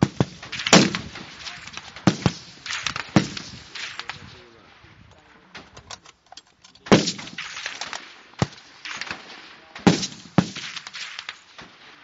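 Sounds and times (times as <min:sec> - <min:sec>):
rifle shots: 0:00.0 - 0:04.8, 0:06.8 - 0:12.0.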